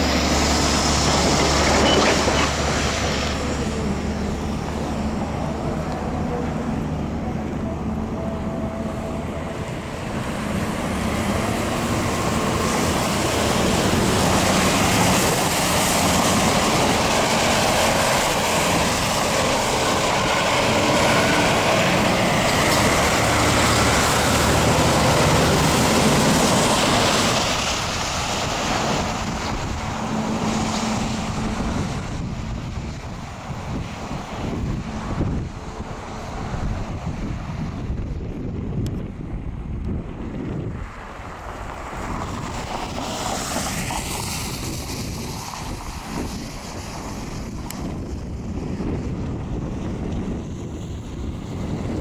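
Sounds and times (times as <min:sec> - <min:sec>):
engine rumble of passing vehicles: 0:00.0 - 0:52.0.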